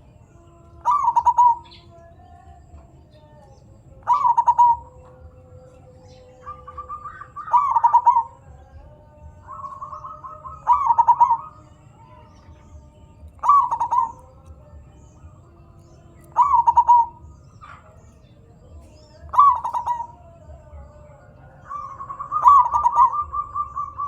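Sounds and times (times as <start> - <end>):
dove cooing: 0.0 - 24.0
faint high bird chirps: 0.0 - 24.0.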